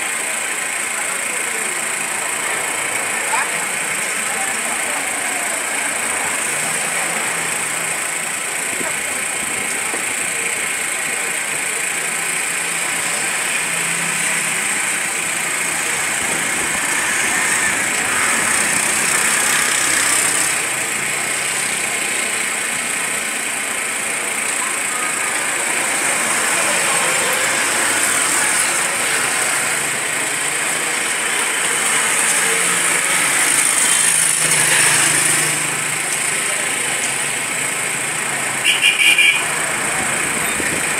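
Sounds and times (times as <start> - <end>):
car engines passing: 0.3 - 40.9.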